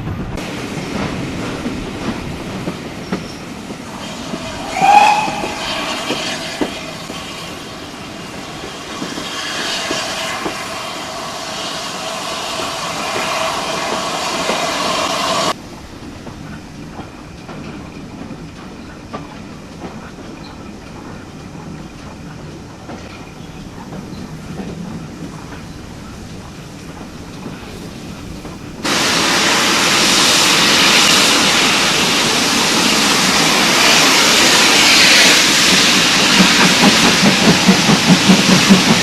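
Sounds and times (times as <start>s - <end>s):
train rumble: 0.0s - 39.0s
train wheels clickety-clack: 0.0s - 39.0s.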